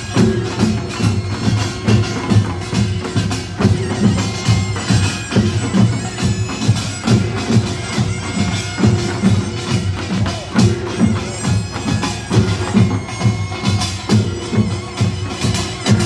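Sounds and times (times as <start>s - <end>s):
clanging small gongs: 0.0s - 16.0s
heavy drum strokes: 0.0s - 16.0s
nasal reedy shawm: 0.0s - 16.0s.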